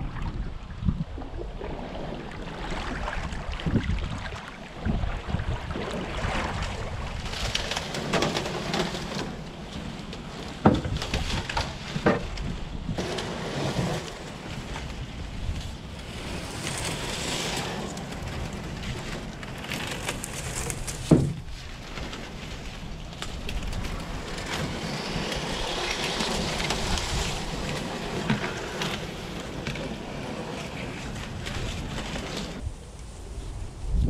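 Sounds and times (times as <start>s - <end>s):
dry reeds crackling and rustling: 6.5s - 33.8s.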